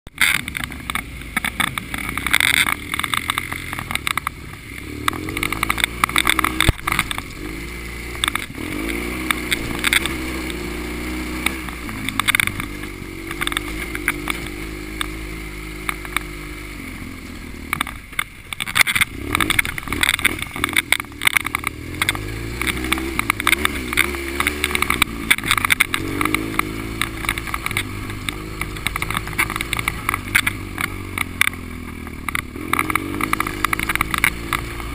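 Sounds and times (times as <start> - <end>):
knocks and rattles: 0.1 - 16.6, 17.7 - 34.9
motorcycle engine revving: 0.1 - 34.9.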